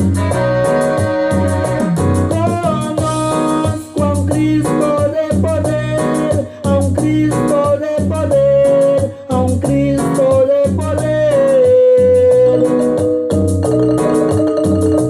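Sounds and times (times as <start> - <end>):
upbeat latin band music: 0.0 - 15.0.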